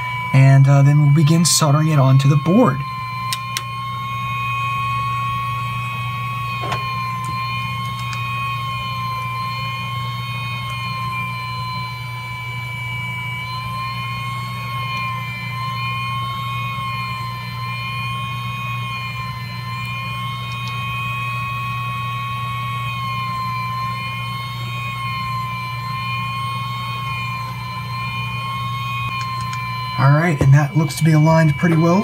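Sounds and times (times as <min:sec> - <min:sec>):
hot-air blower whine: 0:00.0 - 0:32.0
low hum: 0:00.0 - 0:32.0.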